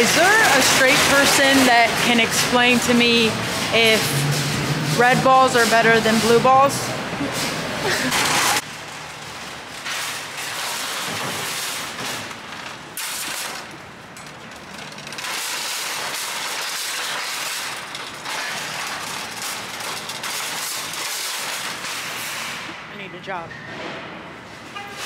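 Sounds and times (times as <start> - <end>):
shopping cart wheels rattling: 0.0 - 22.7.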